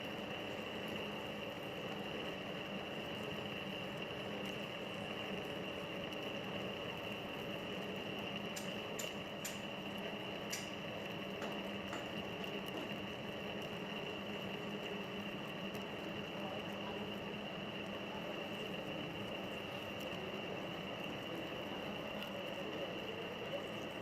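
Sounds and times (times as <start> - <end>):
metal lathe humming and whining: 0.0 - 24.0.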